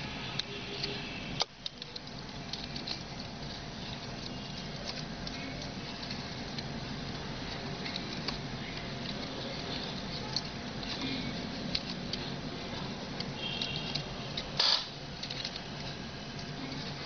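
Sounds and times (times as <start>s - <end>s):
palm leaf crackling: 0.0s - 17.0s.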